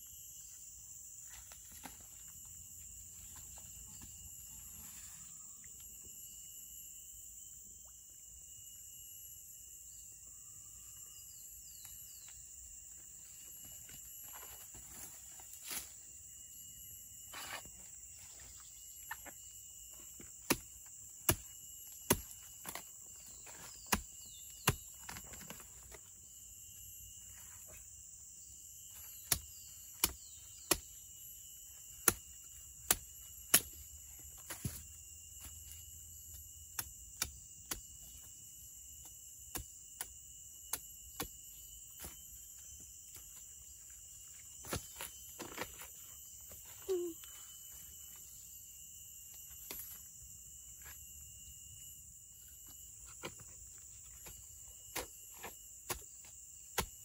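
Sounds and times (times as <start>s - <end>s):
high-pitched insect drone: 0.0s - 57.0s.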